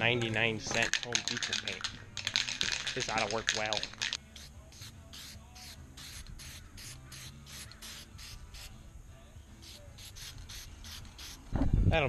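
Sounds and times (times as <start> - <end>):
spray paint can hissing: 0.8 - 8.8, 9.6 - 11.5.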